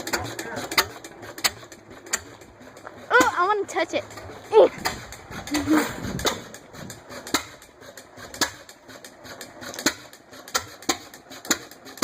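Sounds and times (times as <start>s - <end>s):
gas engine exhaust pops: 0.0s - 12.0s.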